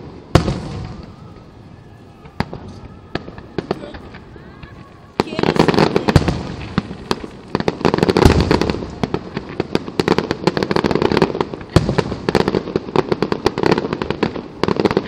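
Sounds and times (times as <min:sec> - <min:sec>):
heavy firework booms: 0:00.0 - 0:15.0.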